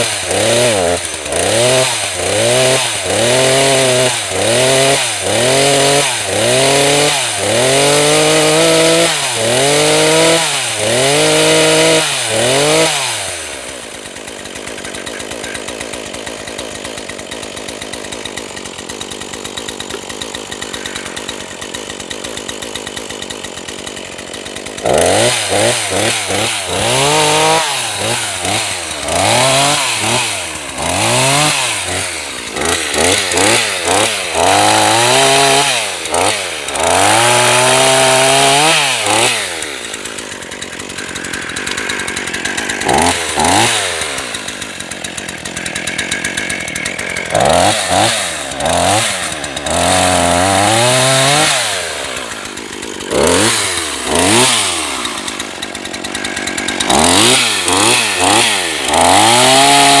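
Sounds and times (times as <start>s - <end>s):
chainsaw revving: 0.0s - 60.0s.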